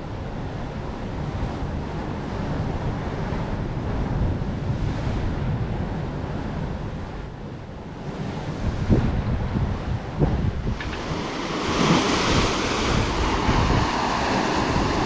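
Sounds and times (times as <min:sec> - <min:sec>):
wind buffeting microphone: 0:00.0 - 0:15.0
sea waves breaking: 0:00.2 - 0:15.0.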